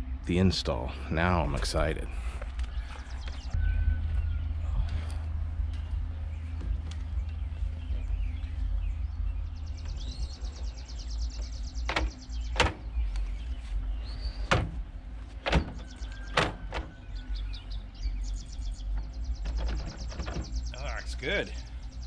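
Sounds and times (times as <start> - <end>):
wind rumble on microphone: 2.2 - 22.0.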